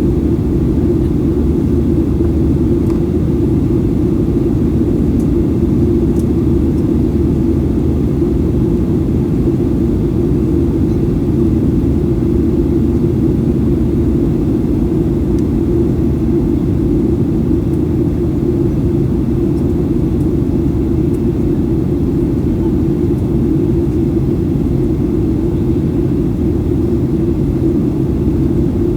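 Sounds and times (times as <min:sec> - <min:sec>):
airplane cabin engine drone: 0:00.0 - 0:28.9.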